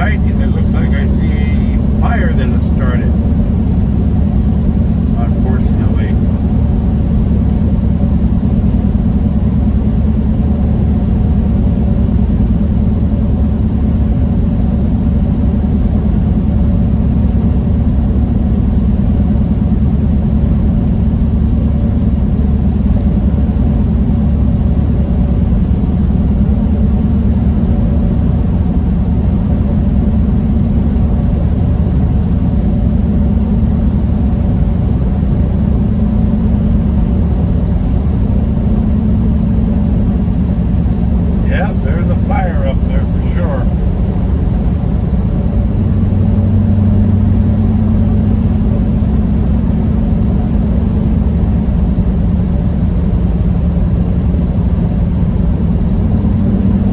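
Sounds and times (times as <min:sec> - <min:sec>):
truck engine and road rumble: 0:00.0 - 0:56.9.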